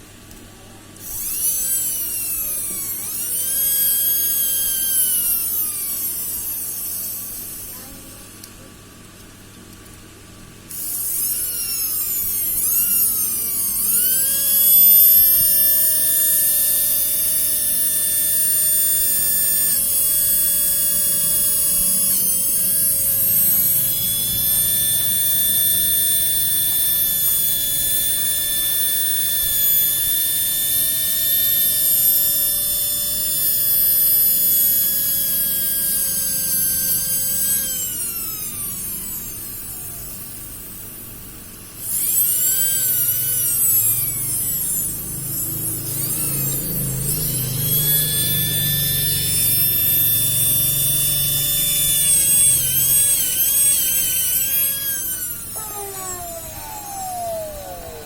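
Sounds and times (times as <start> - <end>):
small electric motor whining: 1.0 - 8.5, 10.7 - 58.0.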